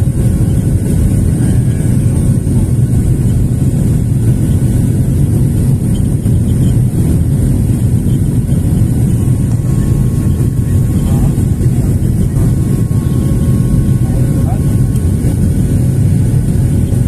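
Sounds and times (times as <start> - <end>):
jet engine cabin noise: 0.0 - 17.0.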